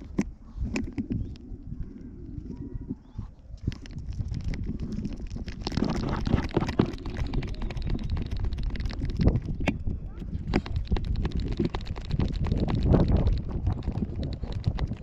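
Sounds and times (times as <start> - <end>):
small knocks and clicks: 0.0 - 1.5, 3.6 - 15.0.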